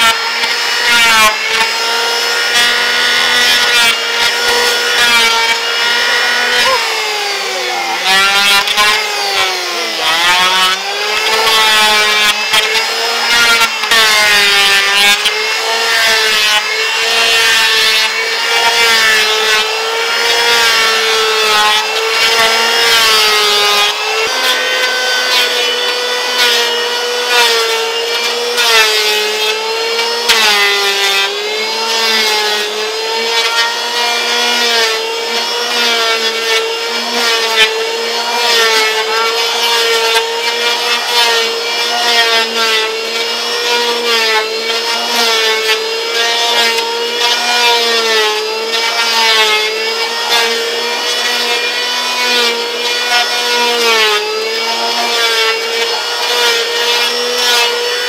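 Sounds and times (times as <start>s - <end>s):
electric hand planer whining: 0.0s - 58.0s.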